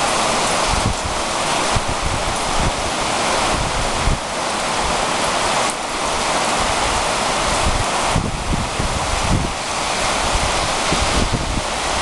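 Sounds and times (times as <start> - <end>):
heavy rain on metal roofs: 0.0 - 12.0.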